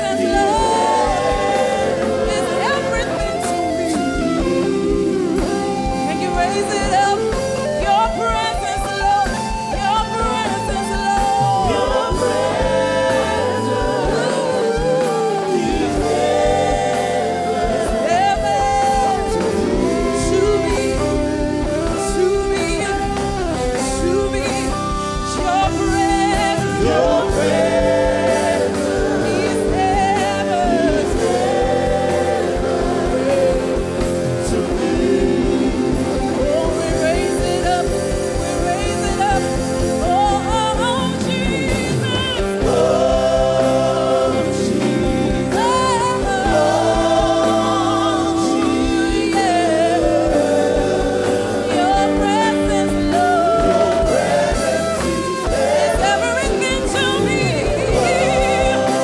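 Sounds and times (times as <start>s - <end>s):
group singing gospel: 0.0s - 59.0s
live band with keyboards and drums: 0.0s - 59.0s.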